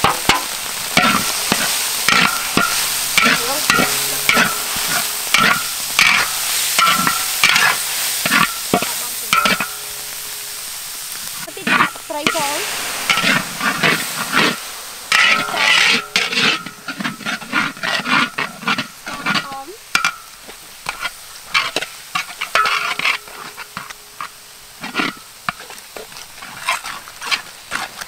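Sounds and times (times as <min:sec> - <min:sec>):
metal spatula scraping a wok: 0:00.0 - 0:28.0
oil sizzling: 0:00.0 - 0:28.0.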